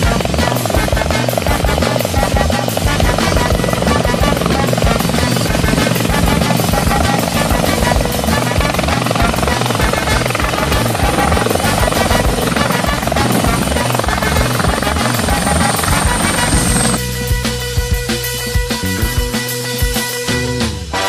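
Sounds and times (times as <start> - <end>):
helicopter rotor chop: 0.0 - 17.6
high steady whine: 0.0 - 20.3
music: 0.0 - 21.0.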